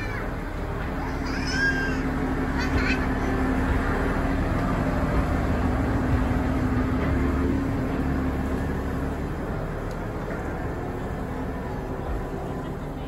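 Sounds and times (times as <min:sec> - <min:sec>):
diesel locomotive engine hum: 0:00.0 - 0:13.0.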